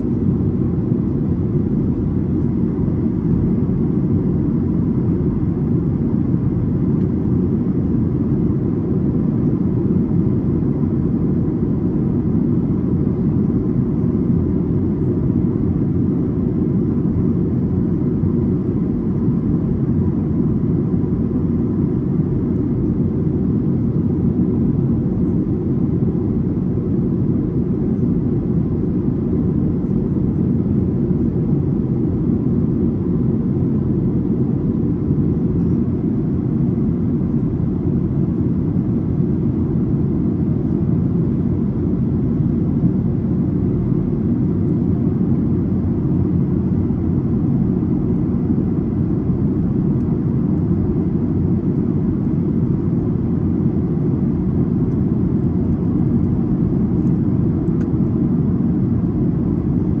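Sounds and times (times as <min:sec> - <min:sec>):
aircraft cabin engine rumble: 0:00.0 - 1:00.0.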